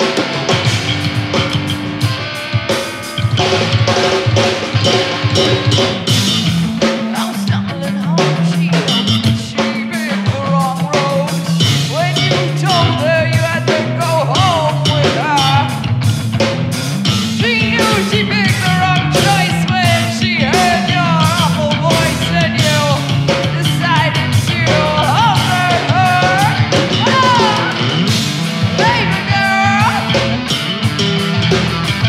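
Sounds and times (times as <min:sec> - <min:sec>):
drum kit: 0:00.0 - 0:32.0
electric bass line: 0:00.0 - 0:32.0
electric guitar sliding lead line: 0:00.0 - 0:32.0.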